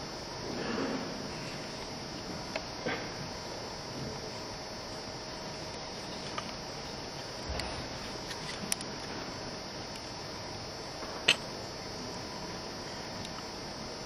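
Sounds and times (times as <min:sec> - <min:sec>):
faint high whine: 0:00.0 - 0:14.0
steady background hiss: 0:00.0 - 0:14.0.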